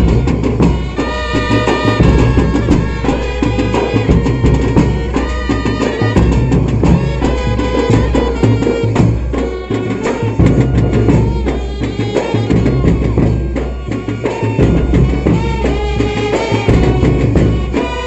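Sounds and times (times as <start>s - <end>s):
fast loud drumming: 0.0s - 18.0s.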